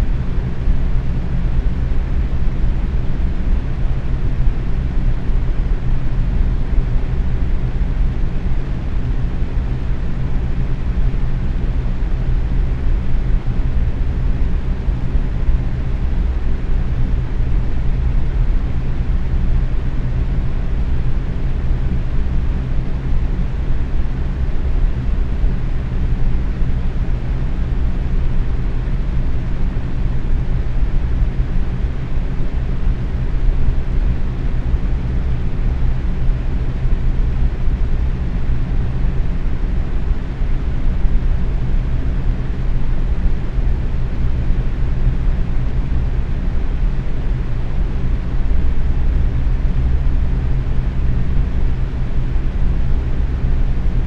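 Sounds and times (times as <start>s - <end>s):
faint motor hum: 0.0s - 54.0s.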